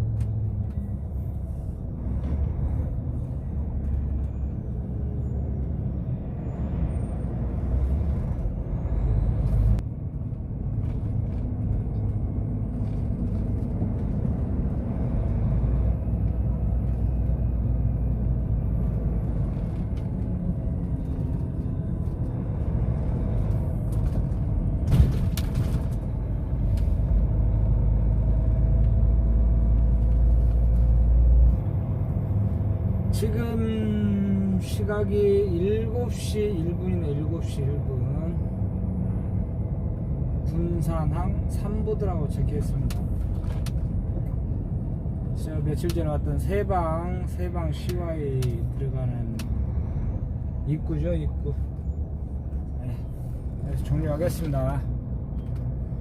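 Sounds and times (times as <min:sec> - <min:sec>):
truck engine and road noise: 0:00.0 - 0:56.0.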